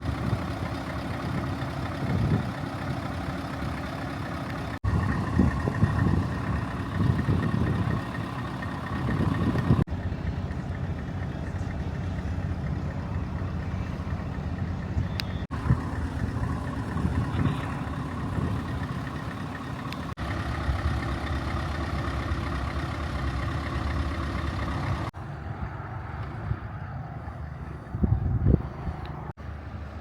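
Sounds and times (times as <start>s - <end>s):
heavy truck engines idling: 0.0s - 30.0s.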